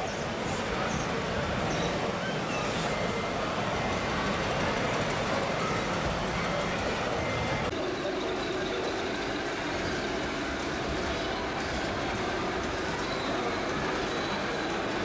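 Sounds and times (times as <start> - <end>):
busy exhibition hall noise: 0.0 - 15.0.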